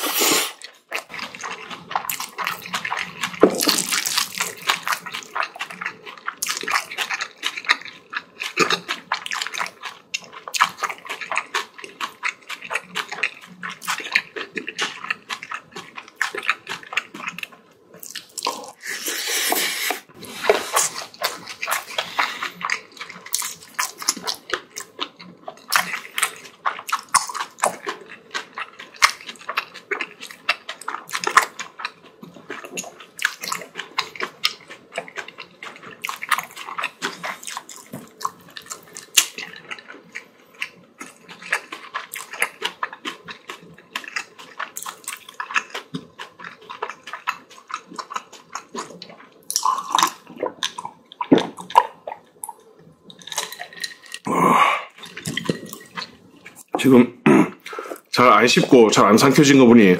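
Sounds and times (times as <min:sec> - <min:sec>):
wet chewing and smacking: 0:00.6 - 0:19.0, 0:19.8 - 0:54.3, 0:54.9 - 0:59.9.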